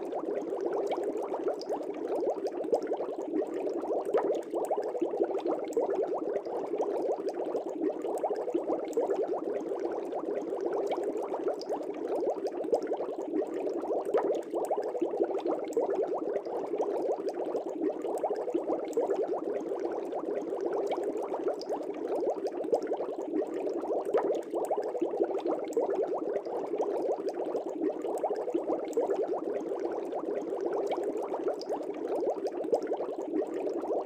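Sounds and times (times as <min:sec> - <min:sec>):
air bubbles in aquarium water: 0:00.0 - 0:34.0.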